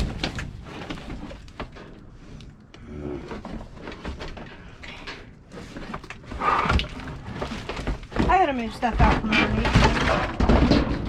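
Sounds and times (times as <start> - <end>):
rummaging boxes in dumpster: 0.0 - 11.0.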